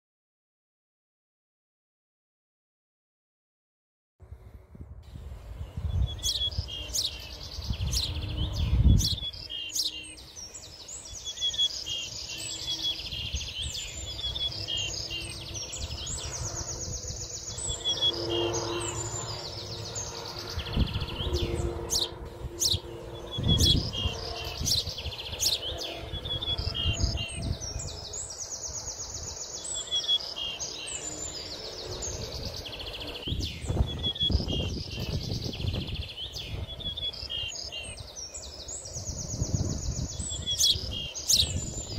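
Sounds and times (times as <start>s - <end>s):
wind buffeting microphone: 4.2s - 29.5s, 31.3s - 41.9s
small birds singing: 4.4s - 41.9s.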